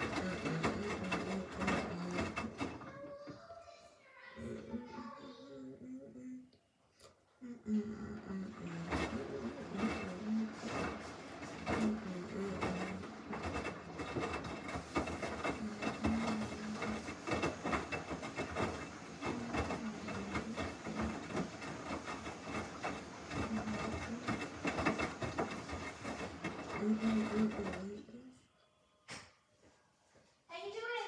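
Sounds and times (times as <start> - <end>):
washing machine running: 0.0 - 3.6, 4.4 - 5.1, 7.4 - 28.3.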